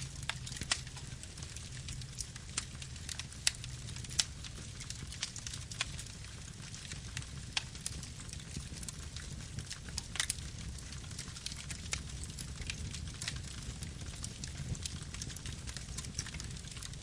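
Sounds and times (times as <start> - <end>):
campfire crackling and popping: 0.0 - 17.0
low fire rumble: 0.0 - 17.0.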